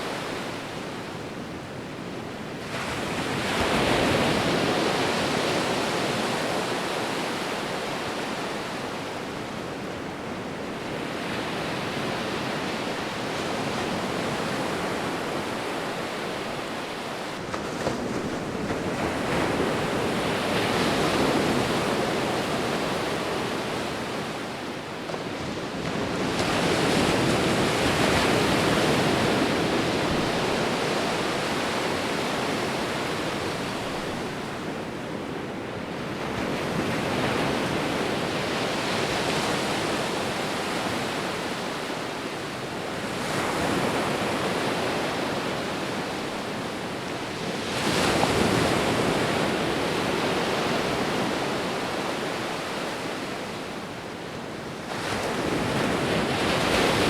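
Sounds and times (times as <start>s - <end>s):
ocean waves rolling in: 0.0s - 57.0s.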